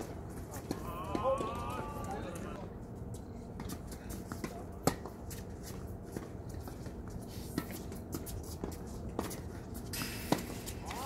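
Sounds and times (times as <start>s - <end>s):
rackets hitting tennis balls: 0.0s - 2.7s, 3.5s - 11.0s
shoes scuffing on court: 0.0s - 11.0s.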